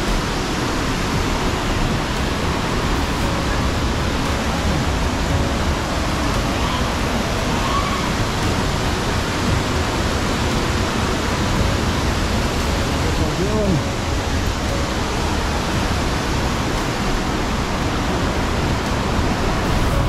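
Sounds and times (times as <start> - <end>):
river rushing over boulders: 0.0 - 20.0.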